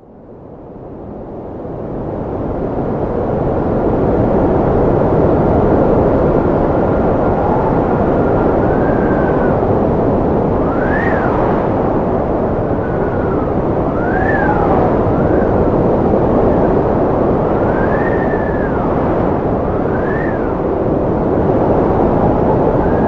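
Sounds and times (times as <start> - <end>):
strong wind rushing: 0.7 - 23.0
howling wind whistle: 1.4 - 23.0.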